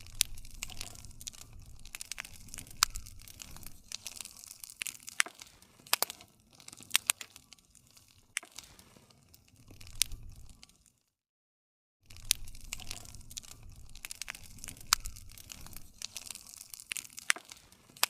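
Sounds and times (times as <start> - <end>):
campfire crackling and popping: 0.0 - 11.0, 12.0 - 18.0.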